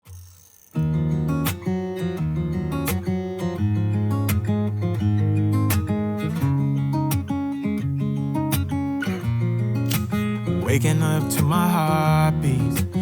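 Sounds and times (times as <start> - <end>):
strummed acoustic guitar with beat: 0.0 - 13.0.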